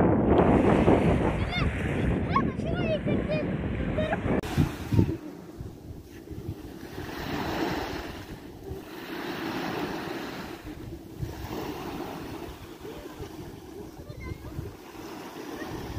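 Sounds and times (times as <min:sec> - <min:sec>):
waves washing on sandy shore: 0:00.0 - 0:15.9
wind rumbling on microphone: 0:00.0 - 0:15.9.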